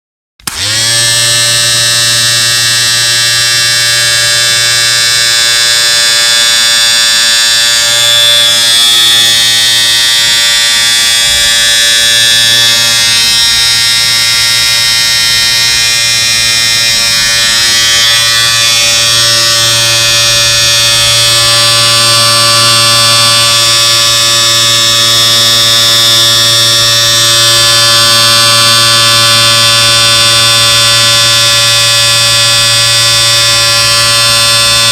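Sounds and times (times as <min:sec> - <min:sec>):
electric shaver buzzing: 0:00.4 - 0:34.9.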